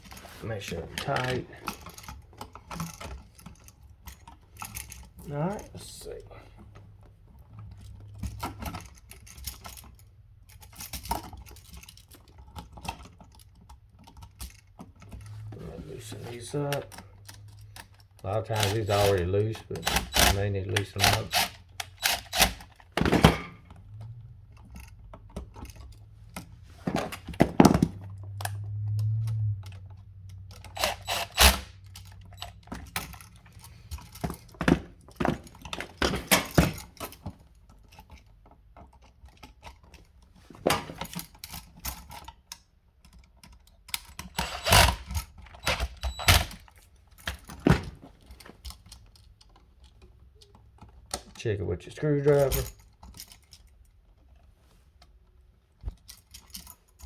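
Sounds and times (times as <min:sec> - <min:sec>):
screwdriver and metal parts clicking: 0:00.0 - 0:06.2, 0:07.6 - 0:51.4, 0:52.0 - 0:54.4.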